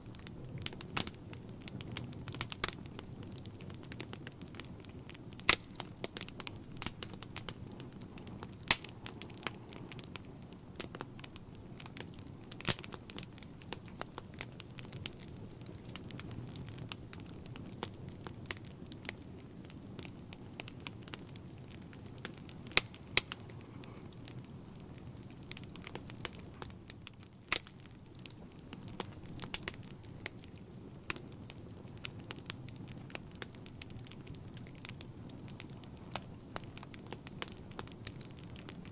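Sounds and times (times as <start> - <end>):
wood fire crackling: 0.0 - 38.9
sharp pops of burning logs: 0.1 - 38.9.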